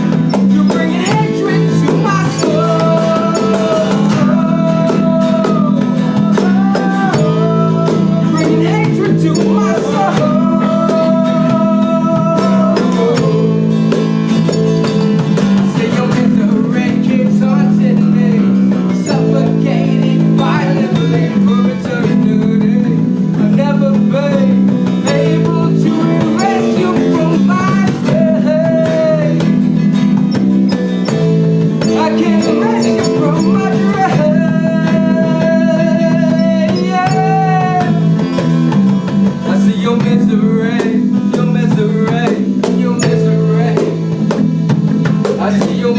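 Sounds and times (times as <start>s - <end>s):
person singing: 0.0s - 14.7s, 15.6s - 30.0s, 30.7s - 38.5s, 39.4s - 44.1s, 45.2s - 45.9s
live band with guitar: 0.0s - 45.9s.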